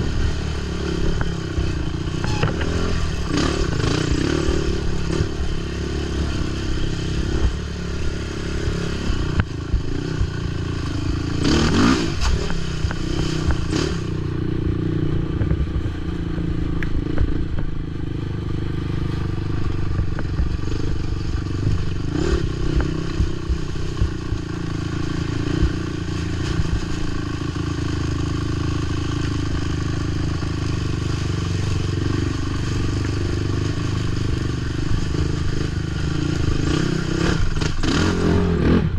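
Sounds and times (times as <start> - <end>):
atv engine running under load: 0.0 - 38.9.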